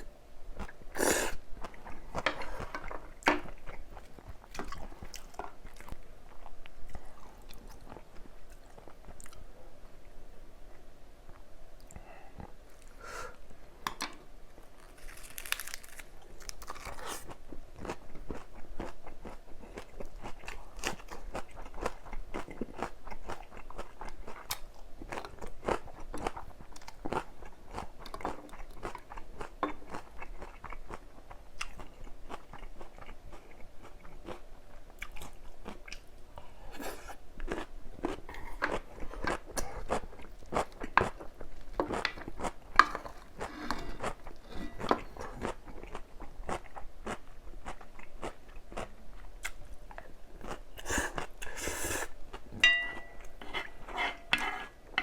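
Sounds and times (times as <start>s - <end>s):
person chewing crunchy vegetables: 0.6s - 9.4s, 14.8s - 54.9s.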